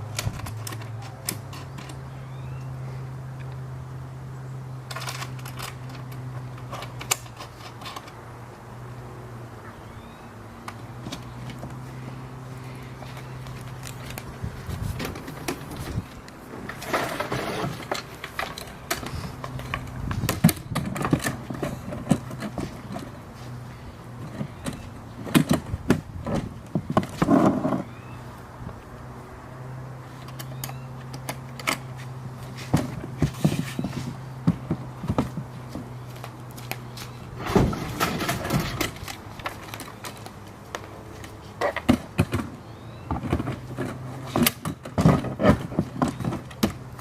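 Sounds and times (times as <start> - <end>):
boat being handled and assembled: 0.0 - 3.7, 4.8 - 8.7, 10.6 - 28.0, 30.0 - 47.0.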